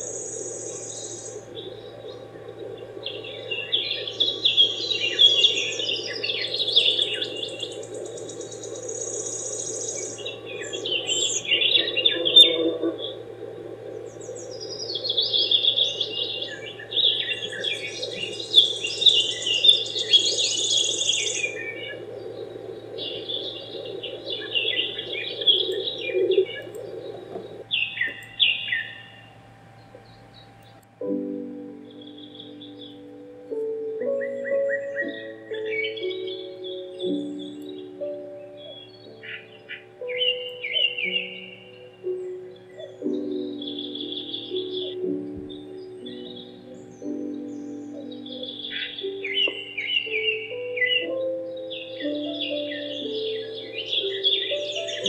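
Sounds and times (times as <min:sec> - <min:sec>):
songbirds chirping and twittering: 0:00.0 - 0:55.0
steady low hum: 0:00.0 - 0:55.0.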